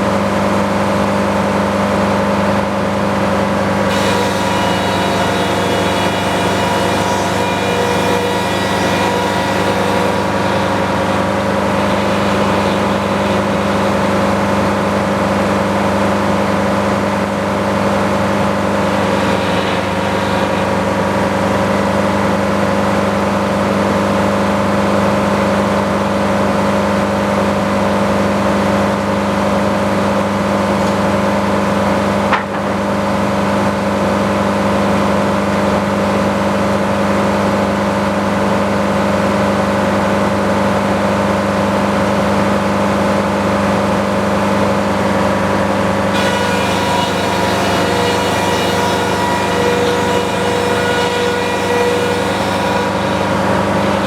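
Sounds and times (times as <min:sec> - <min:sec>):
sawmill engine running: 0:00.1 - 0:54.0.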